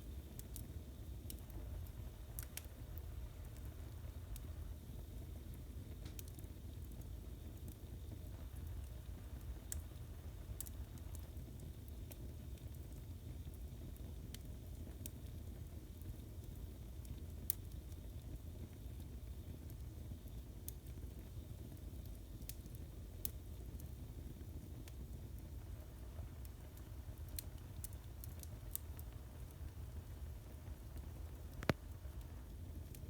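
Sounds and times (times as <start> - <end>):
fire crackles and pops: 0.0 - 33.0
fire rumbling in fireplace: 0.0 - 33.0.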